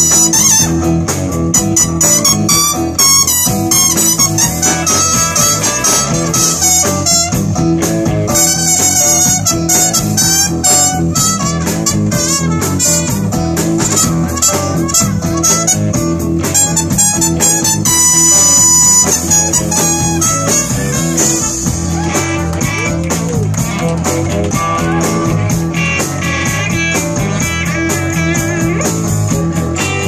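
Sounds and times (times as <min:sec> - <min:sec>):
live blues band: 0:00.0 - 0:30.0.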